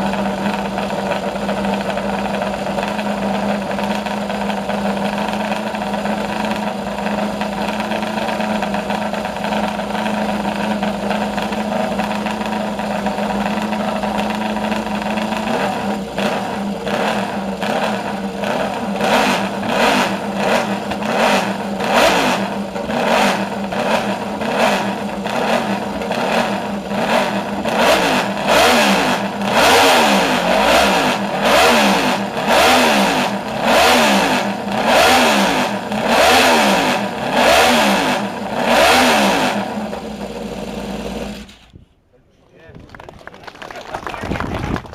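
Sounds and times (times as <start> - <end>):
motorcycle engine idling and revving: 0.0 - 41.7.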